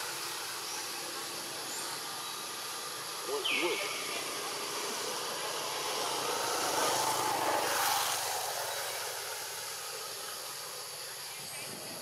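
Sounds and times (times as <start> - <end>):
distant engine passing: 0.0 - 11.9
steady hiss: 0.0 - 12.0.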